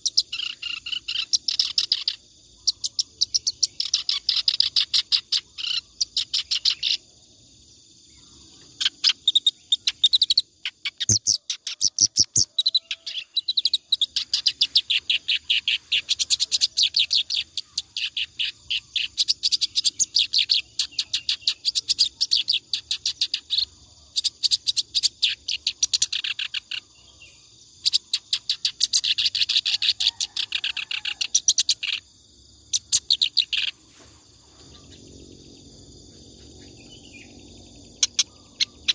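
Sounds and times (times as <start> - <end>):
reed warbler singing: 0.0 - 7.0, 8.6 - 27.1, 27.8 - 32.1, 32.7 - 35.6, 36.4 - 38.9.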